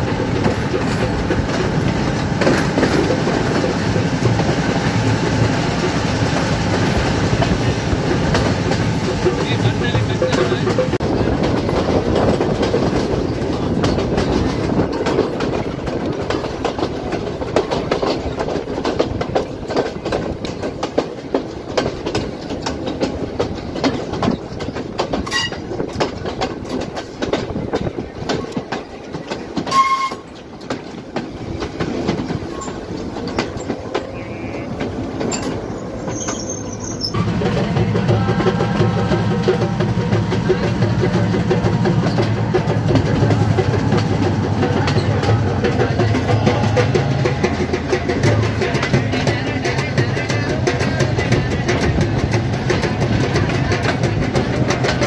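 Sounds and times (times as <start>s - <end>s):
rail joint clicks: 0.0s - 55.0s
train wheels rumbling on rails: 0.0s - 55.0s.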